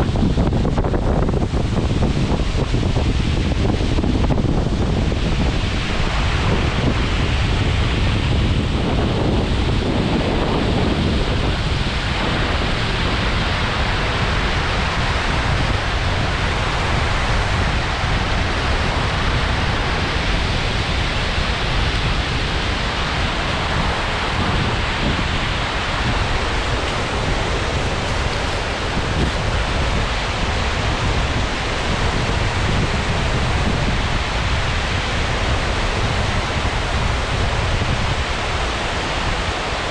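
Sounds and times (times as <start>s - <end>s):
deep rumble: 0.0s - 39.9s
waterfall rushing: 0.0s - 39.9s.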